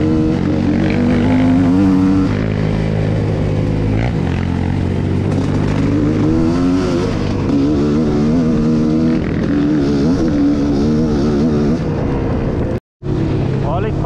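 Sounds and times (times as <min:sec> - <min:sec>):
dirt bike engine revving: 0:00.0 - 0:12.3.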